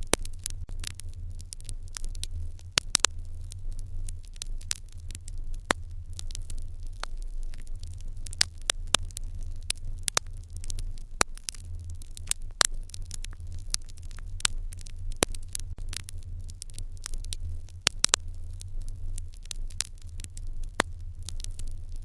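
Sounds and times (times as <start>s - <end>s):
fire crackling and popping: 0.0s - 22.0s
steady low rumble: 0.0s - 22.0s.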